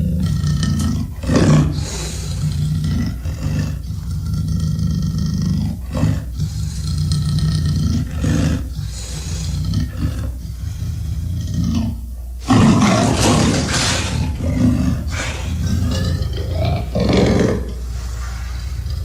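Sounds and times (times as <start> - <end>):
dinosaur roar: 0.0 - 17.9.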